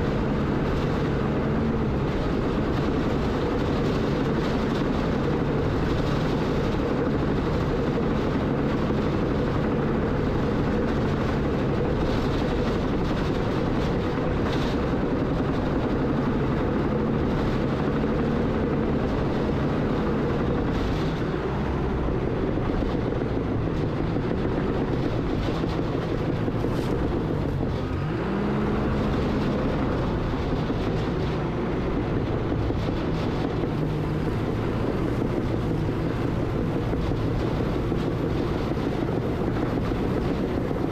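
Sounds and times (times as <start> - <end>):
diesel engine of earthmoving machine: 0.0 - 40.9.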